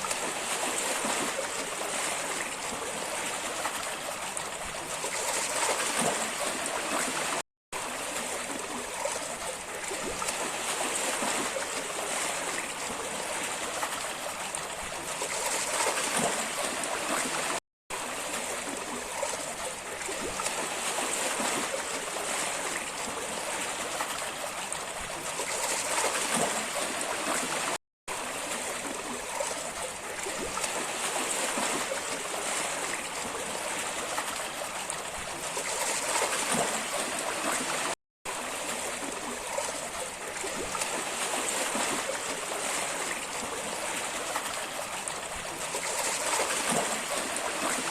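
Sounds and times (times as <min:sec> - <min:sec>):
trickling water: 0:00.0 - 0:47.9.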